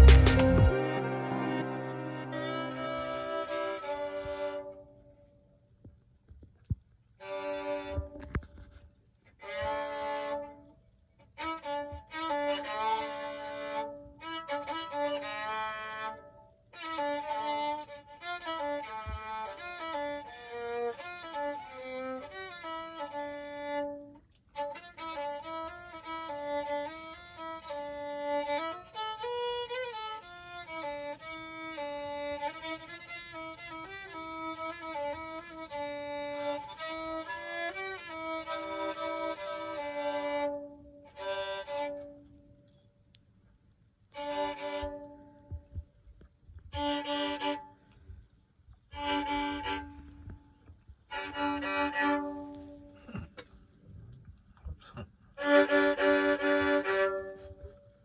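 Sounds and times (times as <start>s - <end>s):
violin melody: 0.0s - 5.6s, 7.1s - 42.8s, 44.1s - 53.0s, 55.3s - 58.0s.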